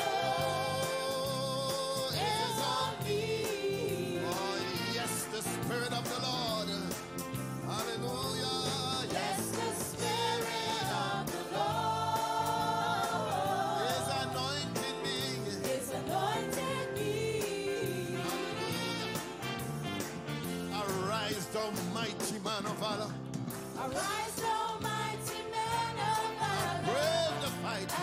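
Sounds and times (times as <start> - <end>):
person singing gospel: 0.0 - 7.0, 7.7 - 19.4, 23.8 - 28.0
band with drums: 0.0 - 17.6, 18.2 - 28.0.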